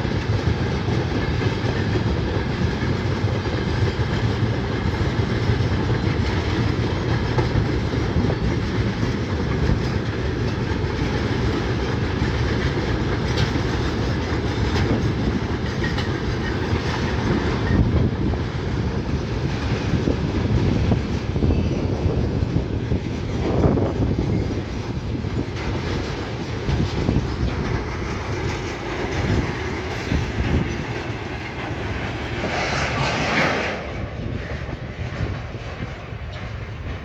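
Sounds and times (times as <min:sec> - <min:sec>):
train wagons rolling on rails: 0:00.0 - 0:37.0.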